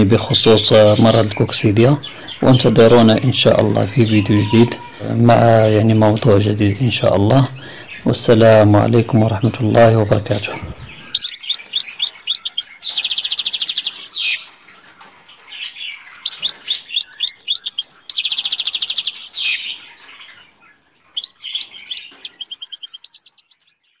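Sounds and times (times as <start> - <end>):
goldfinch twittering and trilling: 0.0 - 24.0.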